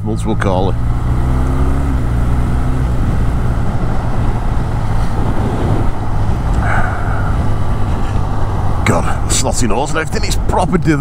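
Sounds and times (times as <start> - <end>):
motorcycle engine running: 0.0 - 10.7
road noise: 0.0 - 11.0
wind noise: 1.1 - 11.0.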